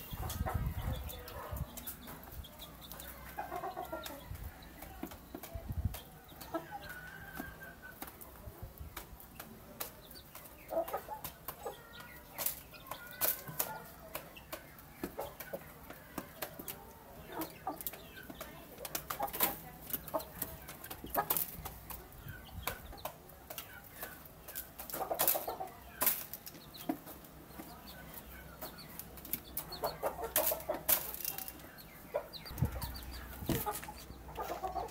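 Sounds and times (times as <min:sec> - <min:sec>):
beaks pecking a wooden floor: 0:00.0 - 0:34.9
chickens clucking: 0:00.0 - 0:34.9.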